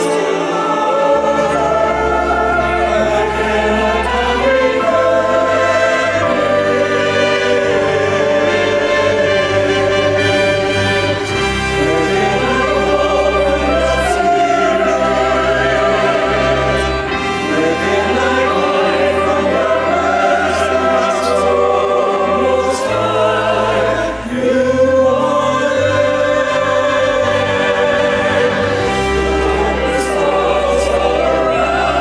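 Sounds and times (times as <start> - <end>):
choir singing a hymn: 0.0 - 32.0
instrumental accompaniment: 0.0 - 32.0.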